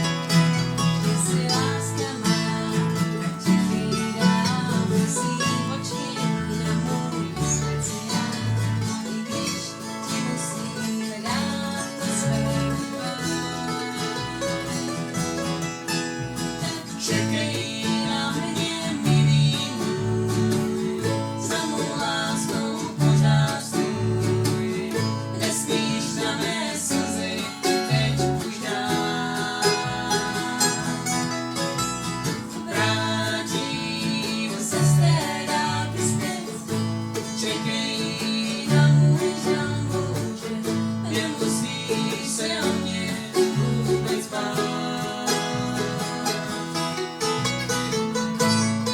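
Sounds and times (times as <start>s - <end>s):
bluegrass string band playing: 0.0s - 48.9s.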